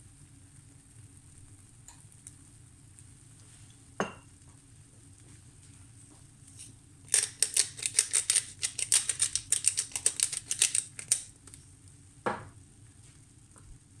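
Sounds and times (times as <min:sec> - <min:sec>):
fat crackling in a frying pan: 0:00.0 - 0:14.0.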